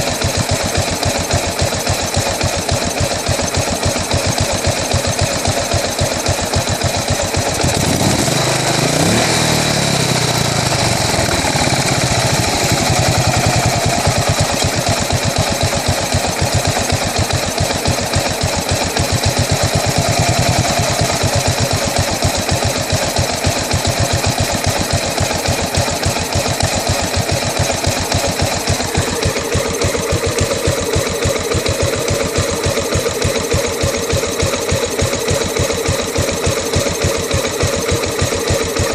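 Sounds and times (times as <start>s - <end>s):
motorcycle engine idling roughly: 0.0s - 38.9s.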